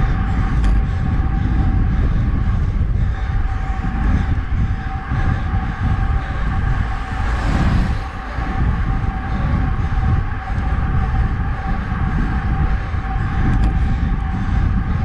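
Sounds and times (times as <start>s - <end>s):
wind rush and rumble: 0.0s - 15.0s.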